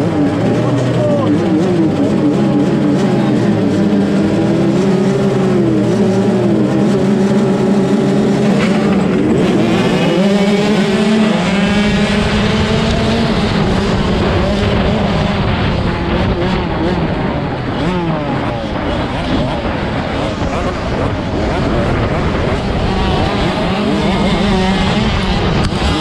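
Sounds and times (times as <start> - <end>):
motocross bikes revving: 0.0 - 26.0
motorbikes accelerating away: 0.0 - 26.0.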